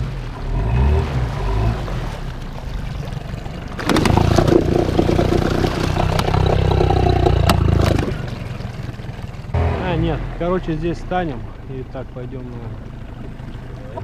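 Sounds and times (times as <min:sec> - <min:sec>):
outboard motor revving: 0:00.0 - 0:14.0
propeller churning mud: 0:00.2 - 0:14.0.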